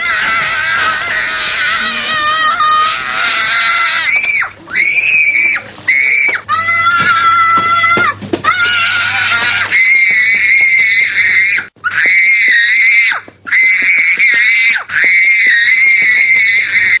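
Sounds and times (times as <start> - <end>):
child screaming: 0.0 - 17.0.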